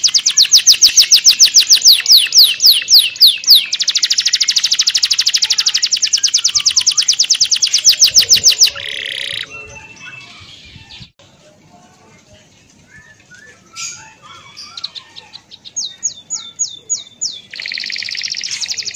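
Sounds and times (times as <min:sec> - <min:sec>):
bird chirping rapidly: 0:00.0 - 0:11.1, 0:13.7 - 0:18.9.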